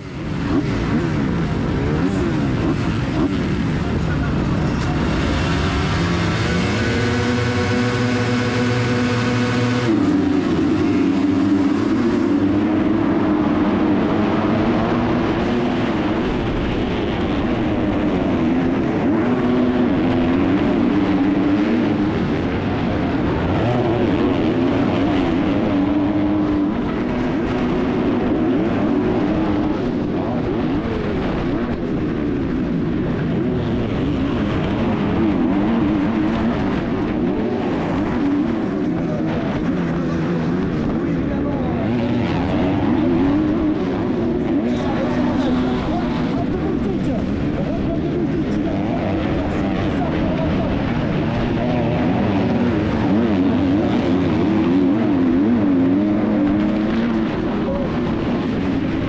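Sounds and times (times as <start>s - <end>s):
motocross bike engine revving: 0.0s - 59.0s
other motorbikes racing: 0.0s - 59.0s.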